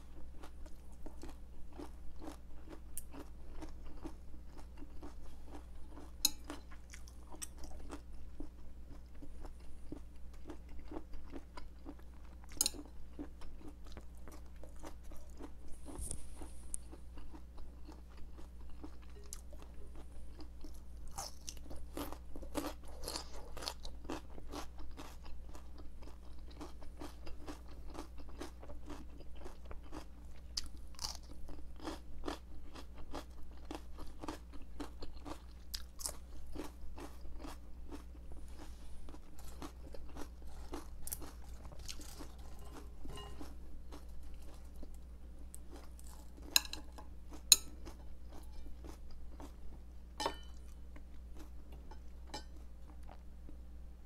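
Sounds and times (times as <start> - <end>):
crunchy chewing of raw vegetables: 0.0 - 53.8.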